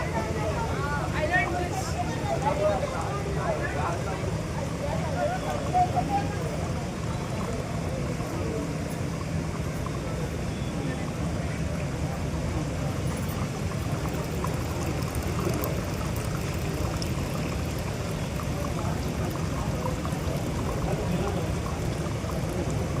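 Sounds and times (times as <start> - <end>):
water pouring from fountain: 0.0 - 23.0.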